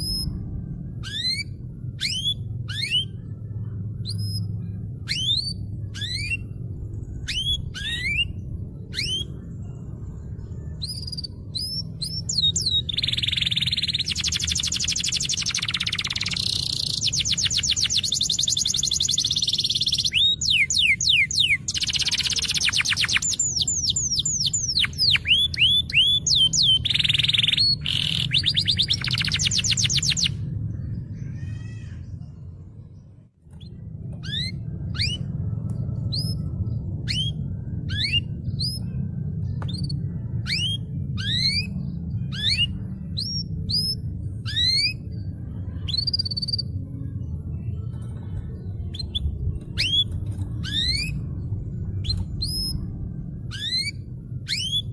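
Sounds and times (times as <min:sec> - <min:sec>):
canary singing trills: 0:00.0 - 0:54.9
steady low hum: 0:00.0 - 0:54.9
sweeping whistled bird notes: 0:01.0 - 0:31.0, 0:33.5 - 0:46.8, 0:48.9 - 0:54.9.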